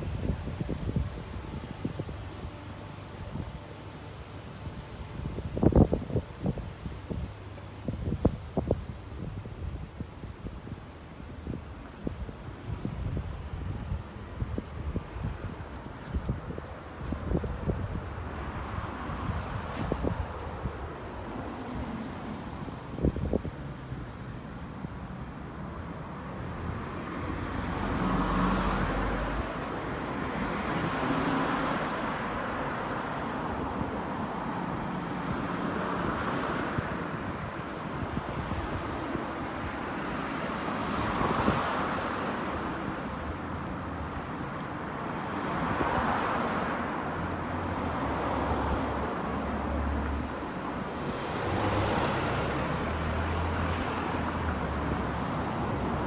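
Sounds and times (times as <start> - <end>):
cars passing: 0.0 - 56.0
steady street hum: 0.0 - 56.0.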